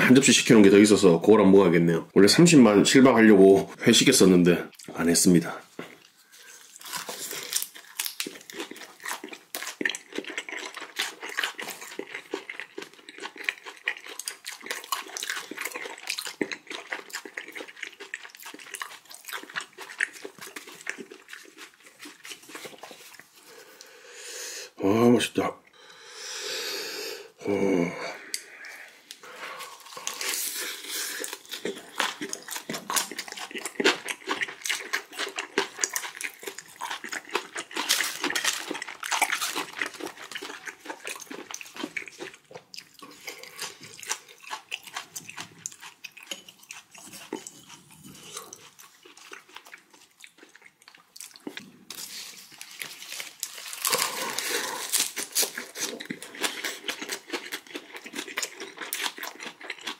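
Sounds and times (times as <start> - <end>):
wet crunchy chewing: 5.8 - 23.9, 28.3 - 59.9.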